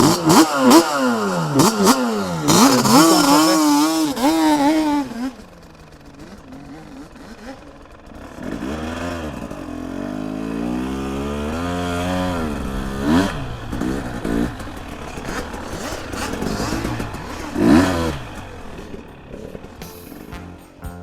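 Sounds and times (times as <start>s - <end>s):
off-road engine revving: 0.0s - 20.8s
engine blips: 0.0s - 21.0s.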